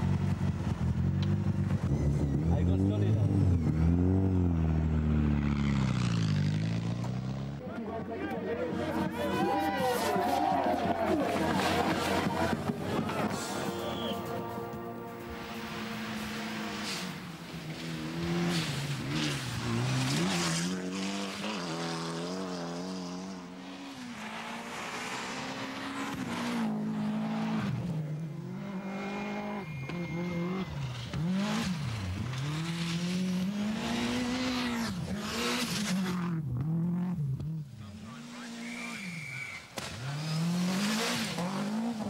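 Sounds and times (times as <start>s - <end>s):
rally car engines revving: 0.0s - 42.0s.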